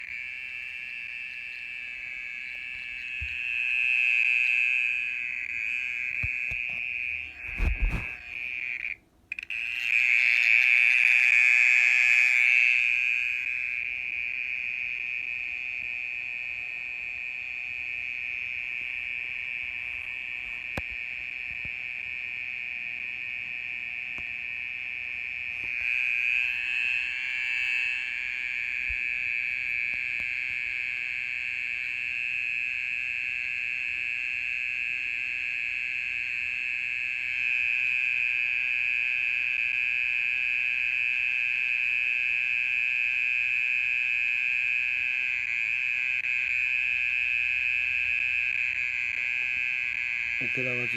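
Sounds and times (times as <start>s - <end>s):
mole cricket trilling: 0.0s - 50.9s.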